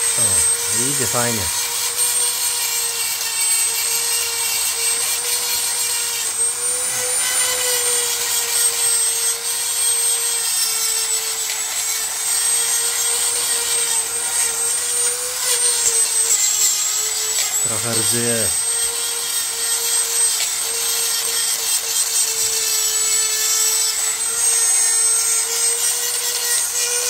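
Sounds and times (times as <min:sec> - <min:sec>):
power tool brush scouring metal: 0:00.0 - 0:27.0.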